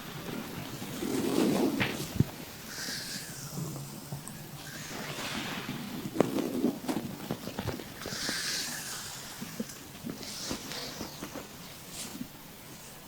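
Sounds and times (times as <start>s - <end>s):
stomach gurgling: 0.0s - 13.0s.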